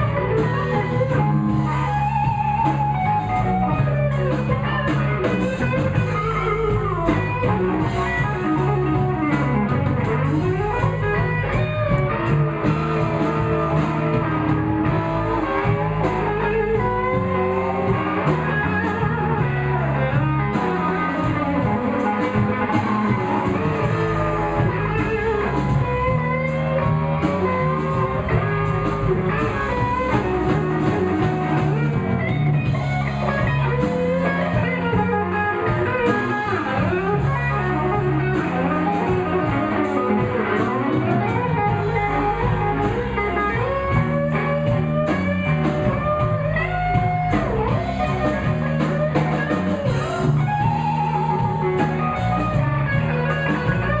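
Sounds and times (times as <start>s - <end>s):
blues band playing: 0.0s - 54.0s
lead guitar solo: 0.0s - 54.0s.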